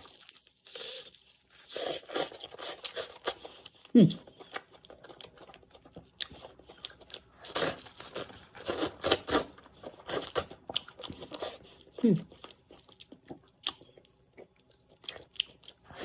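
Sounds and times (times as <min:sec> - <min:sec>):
person chewing and crunching food: 0:00.0 - 0:16.0.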